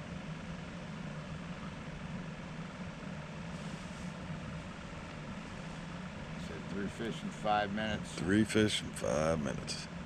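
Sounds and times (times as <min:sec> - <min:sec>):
low mechanical engine hum: 0:00.0 - 0:10.0.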